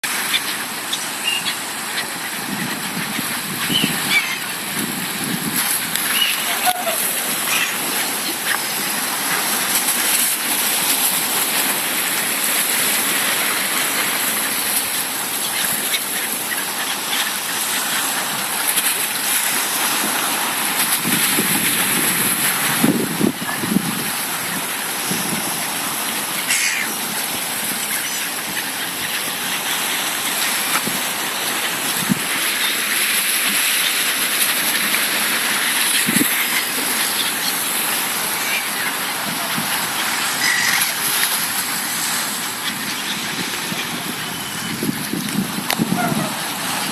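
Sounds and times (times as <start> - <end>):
sea surf washing ashore: 0.0 - 46.9.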